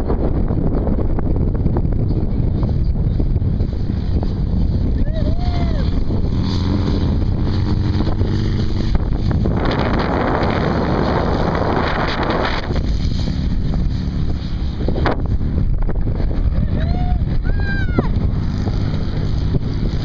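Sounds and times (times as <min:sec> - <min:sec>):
dune buggy passing: 0:00.0 - 0:20.0
off-road vehicle engines humming: 0:00.0 - 0:20.0
wind buffeting microphone: 0:00.0 - 0:20.0.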